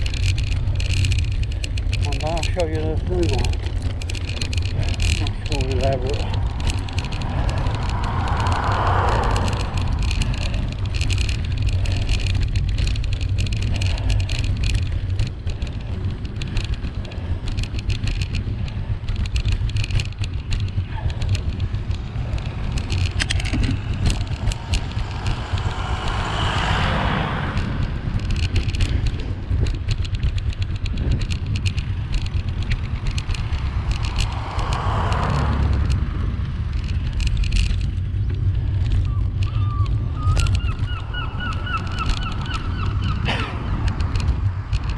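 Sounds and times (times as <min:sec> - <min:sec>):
bicycle rattles and clicks: 0:00.0 - 0:44.9
cars passing: 0:00.0 - 0:44.9
wind rumble on microphone: 0:00.0 - 0:44.9.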